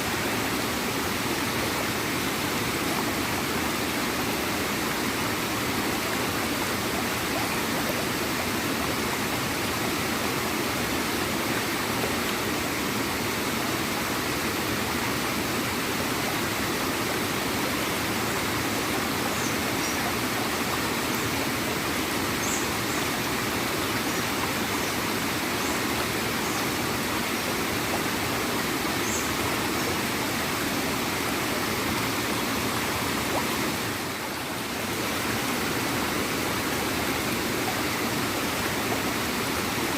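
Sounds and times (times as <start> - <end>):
waterfall and stream gurgling: 0.0 - 39.9.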